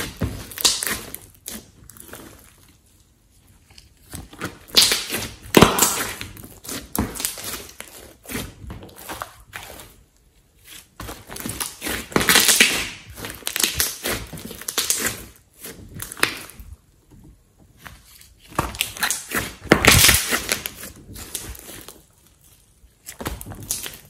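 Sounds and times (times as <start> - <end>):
slime squished by hand: 0.0 - 2.9, 4.0 - 10.0, 10.6 - 16.8, 17.9 - 24.0.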